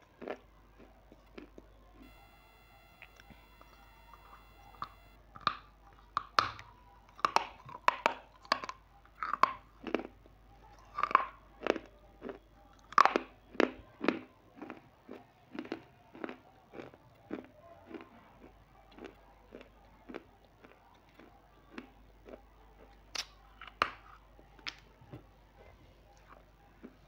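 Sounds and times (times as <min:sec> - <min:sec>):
crunching snack being chewed: 0:00.0 - 0:24.8.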